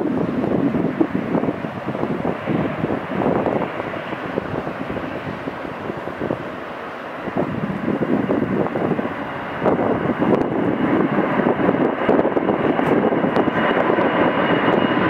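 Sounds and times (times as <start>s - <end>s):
high engine whine: 0.0s - 15.0s
jet engines rumbling: 0.0s - 15.0s.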